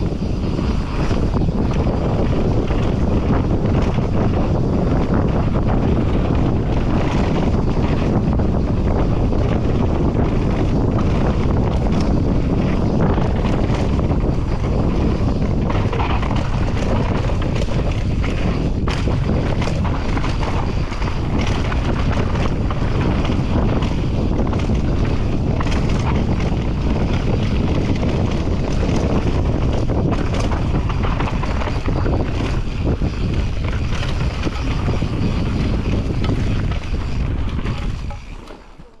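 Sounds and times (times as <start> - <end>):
bike clattering over bumps: 0.0 - 39.0
bike tyres on dirt: 0.0 - 39.0
wind rushing over microphone: 0.0 - 39.0.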